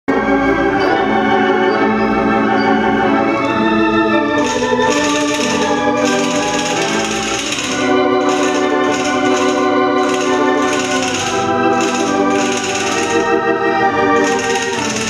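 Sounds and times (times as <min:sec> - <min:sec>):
pipe organ chords: 0:00.1 - 0:15.0.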